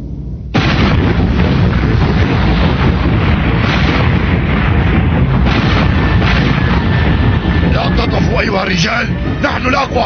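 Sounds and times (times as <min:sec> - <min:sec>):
rumbling roar of explosions: 0:00.5 - 0:10.0.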